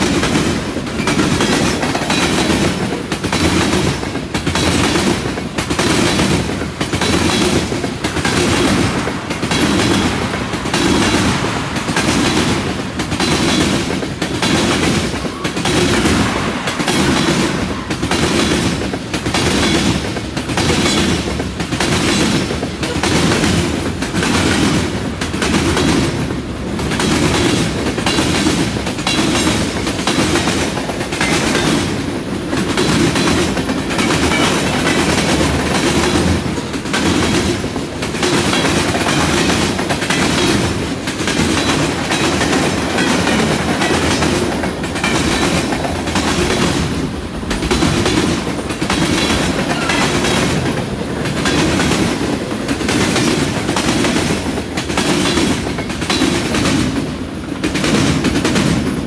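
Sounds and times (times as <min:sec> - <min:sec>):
freight train rumbling past: 0:00.0 - 0:59.0
train wheels clacking over switch: 0:00.0 - 0:59.0.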